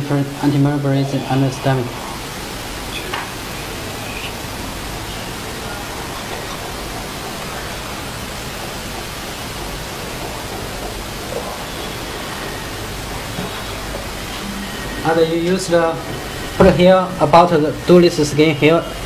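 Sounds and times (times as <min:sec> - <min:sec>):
steady broadband hiss: 0:00.0 - 0:19.0.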